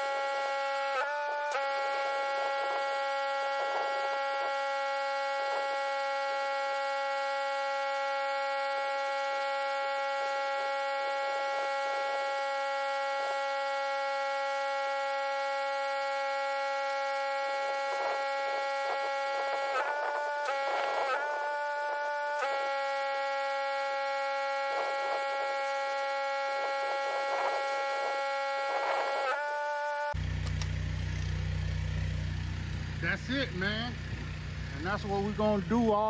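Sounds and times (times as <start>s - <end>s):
pressure washer whining hum: 0.0s - 36.0s.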